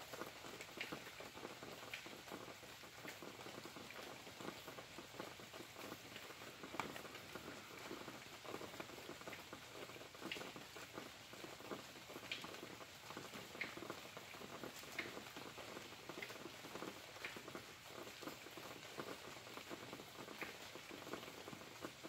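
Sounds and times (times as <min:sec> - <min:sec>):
rain patter: 0:00.0 - 0:22.0.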